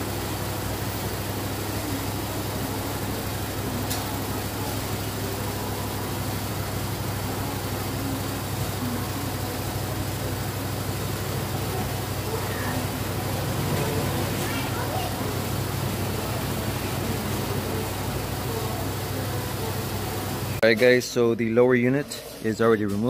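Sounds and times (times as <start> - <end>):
low mechanical hum with hiss: 0.0 - 23.0.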